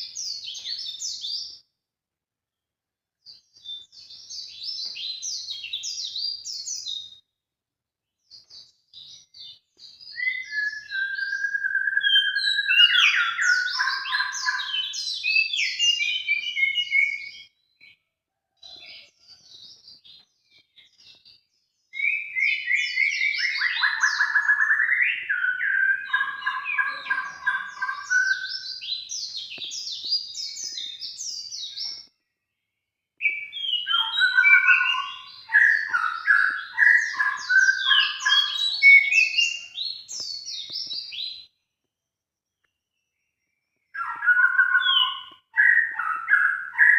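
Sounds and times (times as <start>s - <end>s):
songbird chirps trills and whistles: 0.0s - 1.8s, 2.5s - 7.4s, 8.0s - 46.9s.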